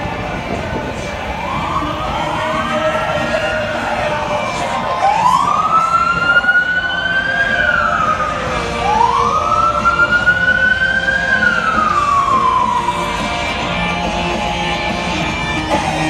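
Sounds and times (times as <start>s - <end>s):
rumble of vehicle engines: 0.0s - 16.0s
siren wailing: 0.0s - 16.0s.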